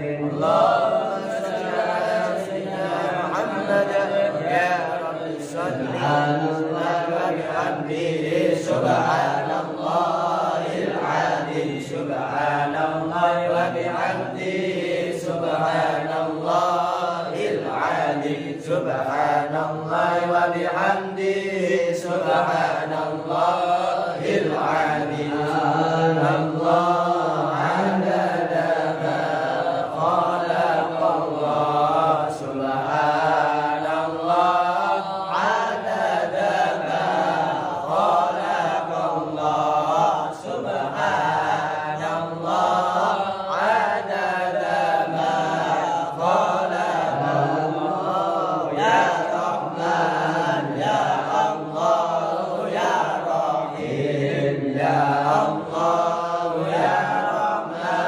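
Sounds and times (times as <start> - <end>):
man chanting melodically: 0.0 - 58.0.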